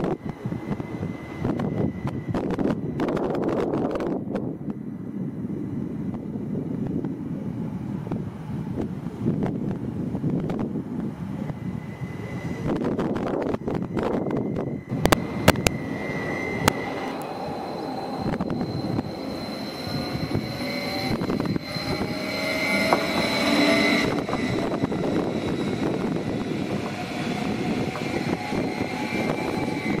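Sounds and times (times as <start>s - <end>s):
electric train whine: 0.0s - 30.0s
wheels rumbling on track: 0.0s - 30.0s.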